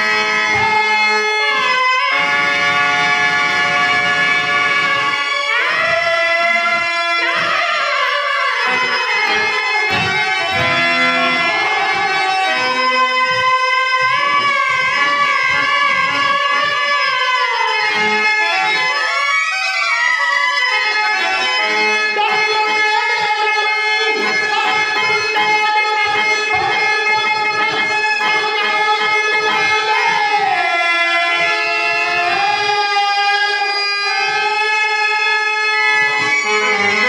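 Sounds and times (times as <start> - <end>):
harmonium: 0.0 - 37.0.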